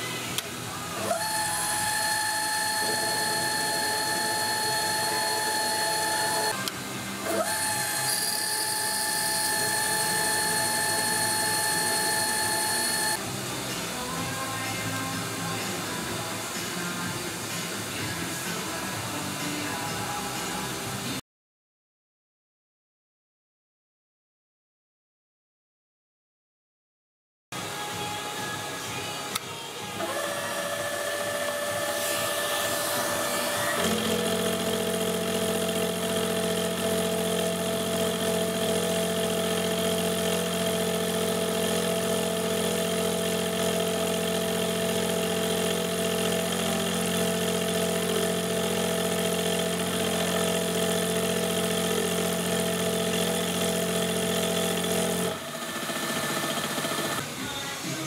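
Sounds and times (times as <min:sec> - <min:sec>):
milling machine hum: 0:00.0 - 0:19.8, 0:27.6 - 0:57.4.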